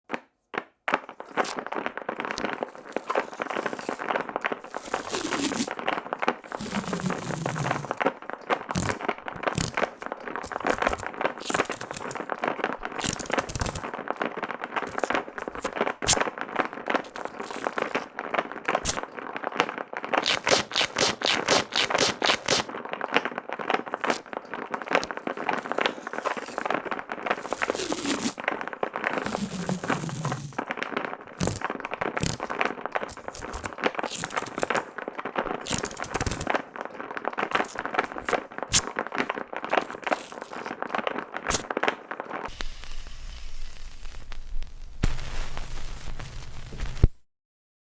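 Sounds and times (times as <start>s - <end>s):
stylus crackling and scraping: 1.1s - 19.1s, 20.0s - 22.8s, 23.6s - 47.2s.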